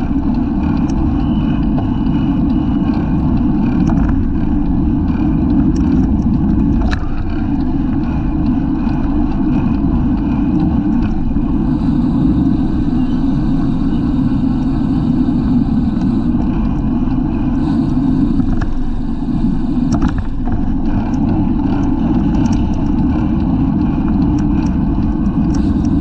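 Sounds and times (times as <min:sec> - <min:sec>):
faint ticks: 0:00.0 - 0:26.0
wind buffeting microphone: 0:00.0 - 0:26.0.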